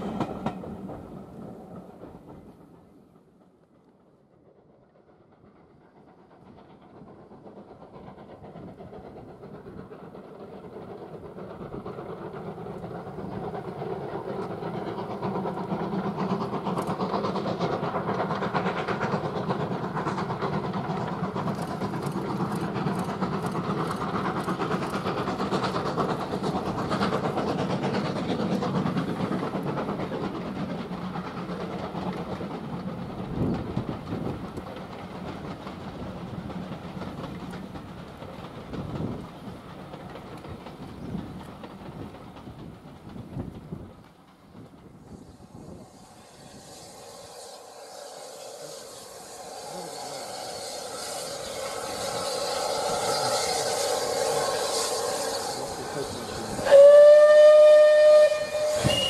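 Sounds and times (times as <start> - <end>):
steam train passing: 0.0 - 59.0.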